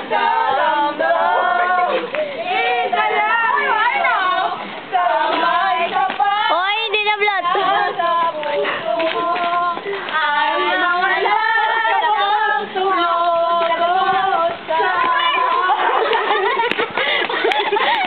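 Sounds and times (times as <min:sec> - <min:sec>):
girls singing together: 0:00.0 - 0:18.0.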